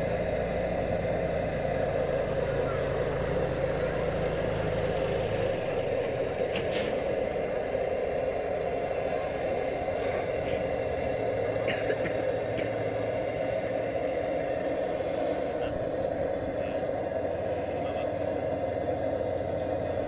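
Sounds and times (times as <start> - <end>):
blowlamp burning with rushing sound: 0.2 - 20.0.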